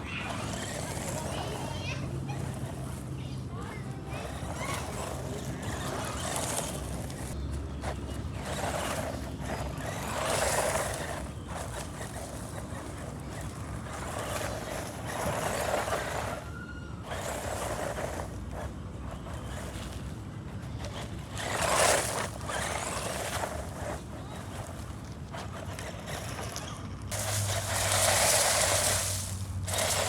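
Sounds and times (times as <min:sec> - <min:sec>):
rc car motor and tyres: 0:00.0 - 0:30.0.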